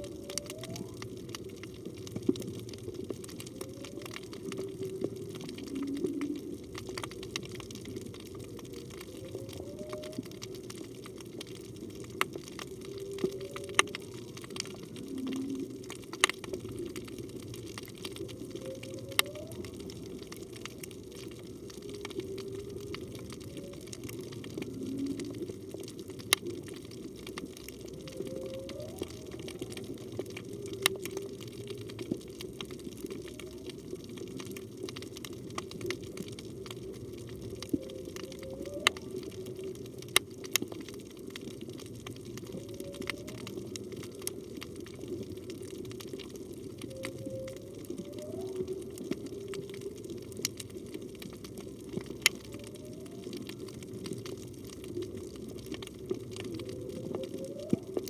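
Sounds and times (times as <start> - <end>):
underwater rush: 0.0 - 58.0
whale song underwater: 0.0 - 58.0.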